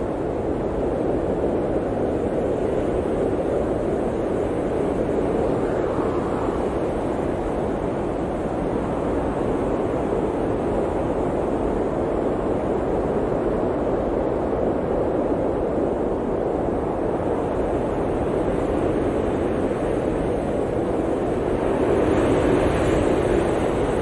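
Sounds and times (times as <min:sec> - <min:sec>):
blizzard wind roaring: 0:00.0 - 0:24.0.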